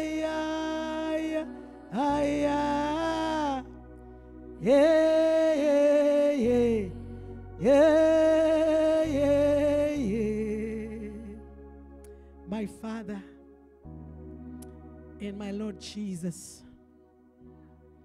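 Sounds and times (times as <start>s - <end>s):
slow worship music: 0.0s - 18.0s.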